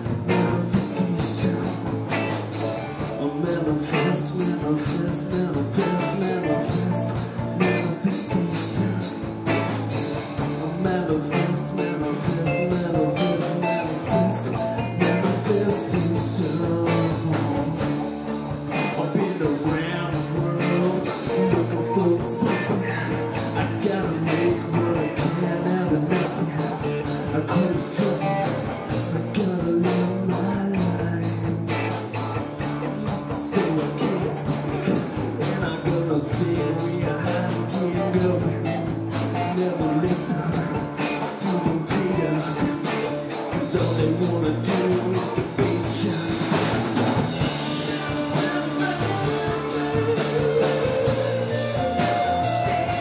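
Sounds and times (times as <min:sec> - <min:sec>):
drum kit beat: 0:00.0 - 0:53.0
electric bass: 0:00.0 - 0:53.0
electric guitars: 0:00.0 - 0:53.0
man singing: 0:00.0 - 0:53.0.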